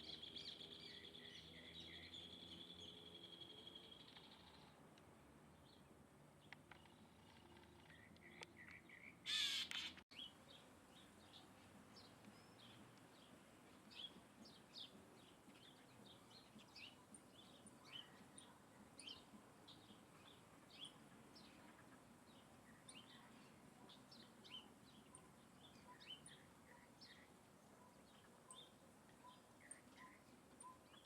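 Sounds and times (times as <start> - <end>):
small birds chirping: 0.0 - 4.8, 5.6 - 31.0.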